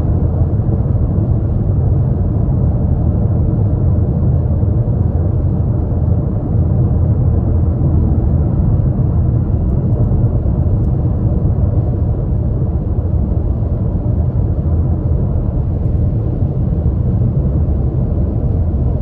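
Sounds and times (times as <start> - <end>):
car cabin road rumble: 0.0 - 19.0.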